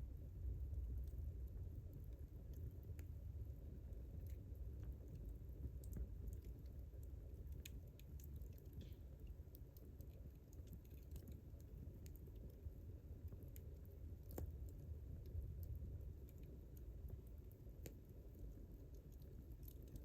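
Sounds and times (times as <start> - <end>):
low steady rumble: 0.0 - 20.0
campfire crackling: 0.5 - 20.0.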